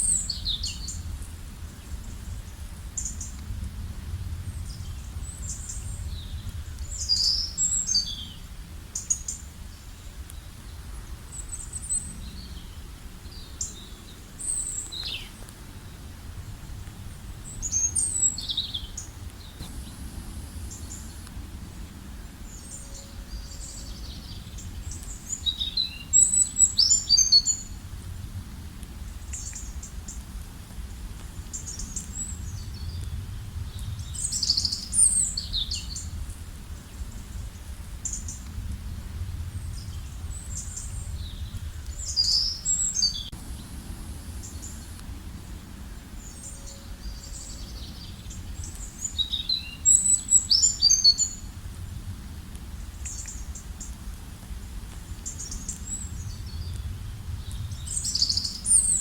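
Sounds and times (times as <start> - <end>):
faint low rumble: 0.0 - 59.0.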